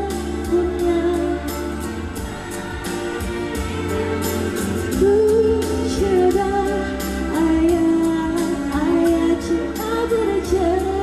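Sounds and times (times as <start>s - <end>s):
keyboard chords: 0.0s - 11.0s
woman singing: 0.0s - 11.0s.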